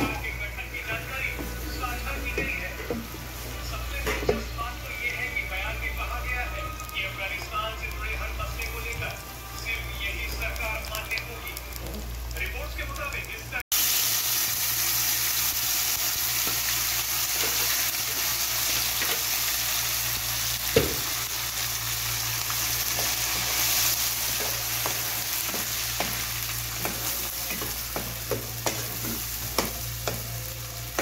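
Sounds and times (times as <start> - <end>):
food sizzling in a pan: 1.4 - 31.0.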